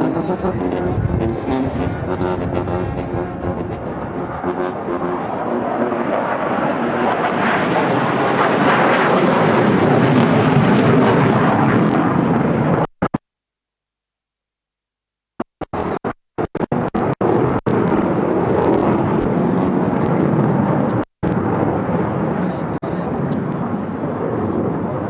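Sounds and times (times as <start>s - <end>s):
fighter jet flying past: 0.0s - 12.9s, 17.2s - 25.0s.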